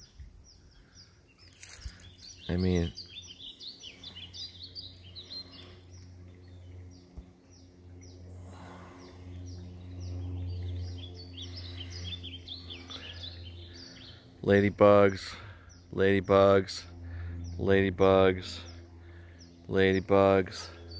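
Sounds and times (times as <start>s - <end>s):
low steady hum: 0.0s - 20.9s
songbirds chirping: 0.0s - 20.9s.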